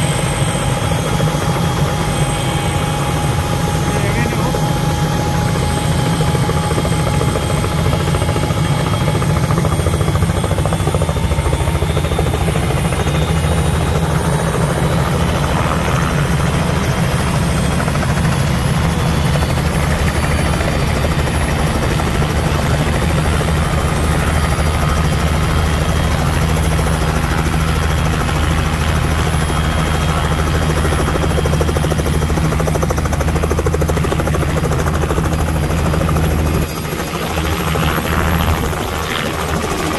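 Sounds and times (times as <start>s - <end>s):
helicopter rotor running: 0.0s - 39.9s.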